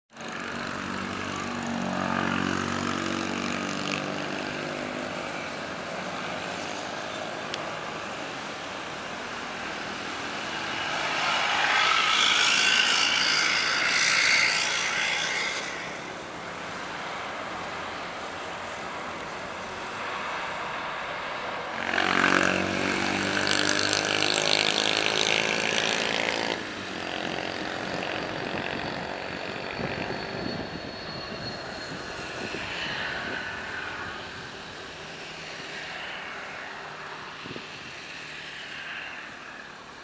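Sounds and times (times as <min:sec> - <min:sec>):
jet engine hum and rushing: 0:00.2 - 0:40.0
jet engine roar: 0:00.2 - 0:40.0.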